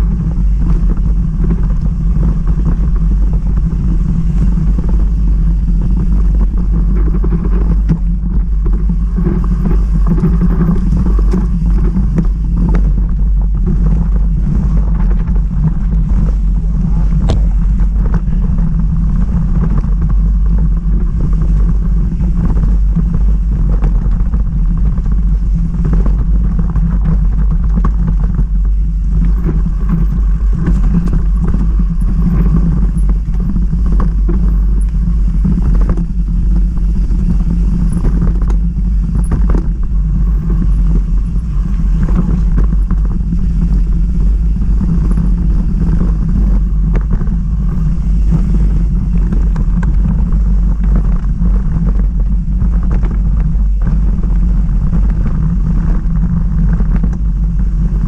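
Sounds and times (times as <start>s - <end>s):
tyres rumbling on dirt: 0.0s - 58.0s
wind on microphone: 0.0s - 58.0s.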